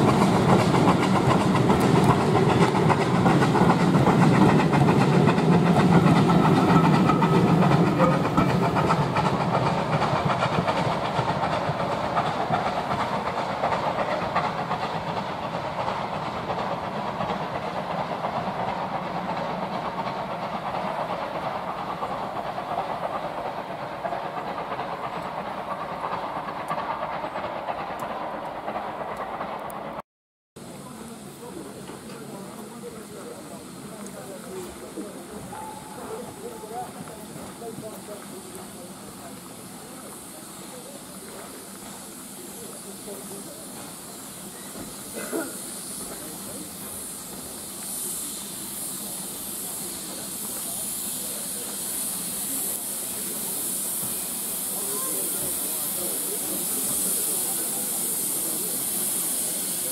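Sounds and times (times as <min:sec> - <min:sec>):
train wheels clattering over track: 0:00.0 - 0:30.0, 0:30.6 - 0:59.9.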